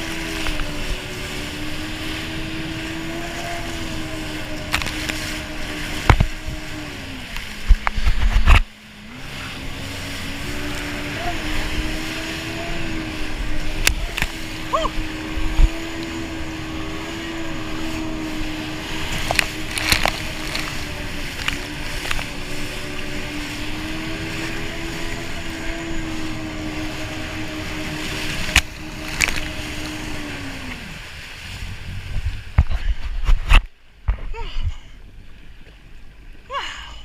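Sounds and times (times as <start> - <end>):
jet ski engine running: 0.0 - 37.0
water and wind rushing: 0.0 - 37.0.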